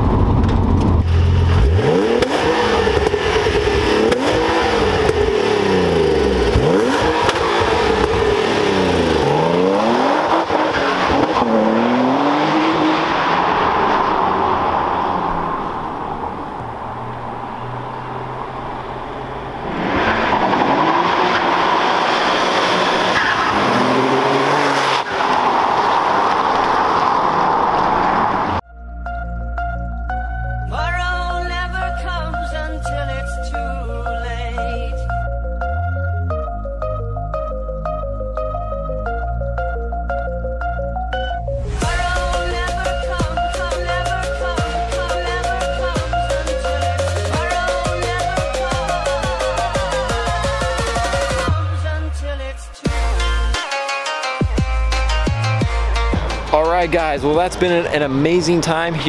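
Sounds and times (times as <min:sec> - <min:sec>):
car engine accelerating: 0:00.0 - 0:28.6, 0:36.3 - 0:53.6, 0:54.6 - 0:59.0.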